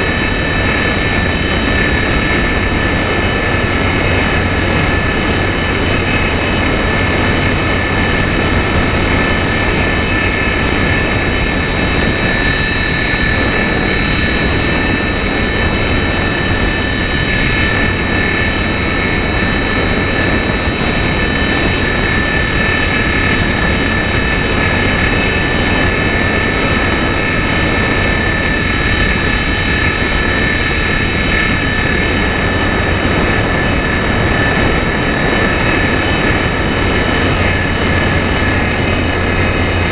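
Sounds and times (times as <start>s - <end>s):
electric motor whine: 0.0s - 39.9s
wind rush: 0.0s - 39.9s.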